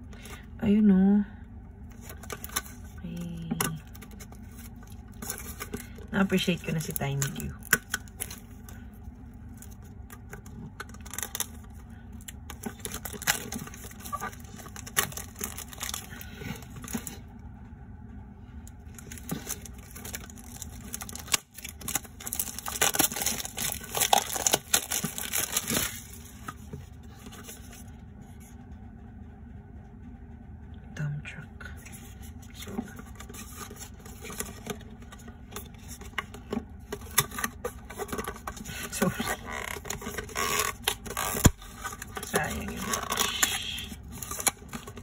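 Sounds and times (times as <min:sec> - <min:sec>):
plastic shrink wrap crinkling: 0:01.9 - 0:08.8, 0:09.4 - 0:17.2, 0:18.9 - 0:27.8, 0:32.5 - 0:45.0.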